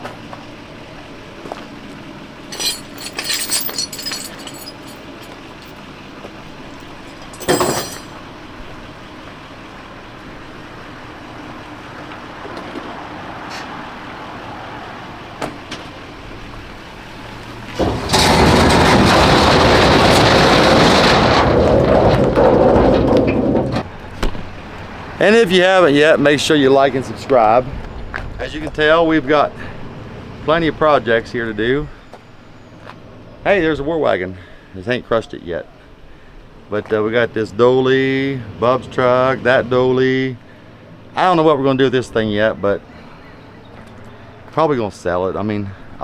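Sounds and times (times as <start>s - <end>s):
trailer rattles and clanks: 0.0s - 46.0s
vehicle running noise: 0.0s - 46.0s.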